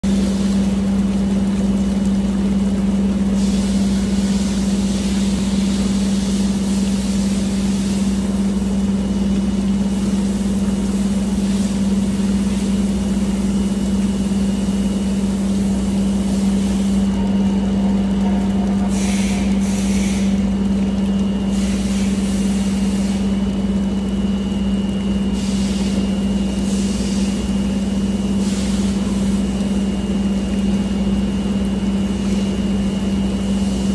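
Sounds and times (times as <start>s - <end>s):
machinery humming: 0.0s - 33.9s.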